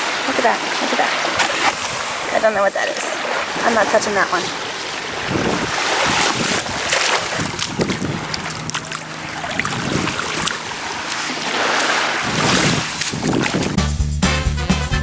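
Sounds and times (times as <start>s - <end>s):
surf washing on beach: 0.0s - 13.8s
wind buffeting microphone: 1.2s - 13.8s.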